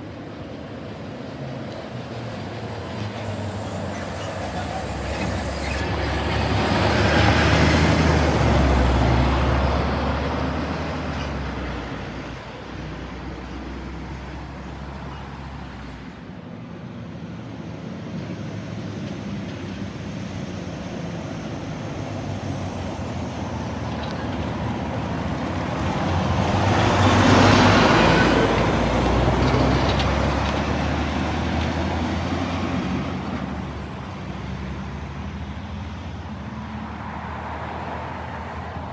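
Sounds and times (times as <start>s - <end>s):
heavy trucks driving past: 0.0s - 38.9s.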